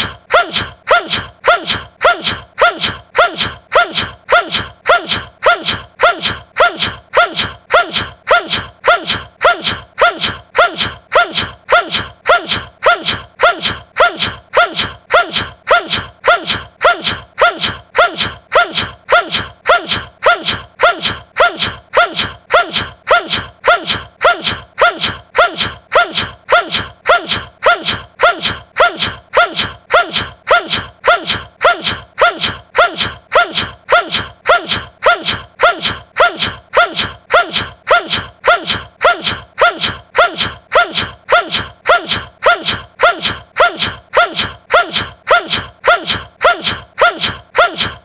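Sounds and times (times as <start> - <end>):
man sneezing: 0.0 - 48.0.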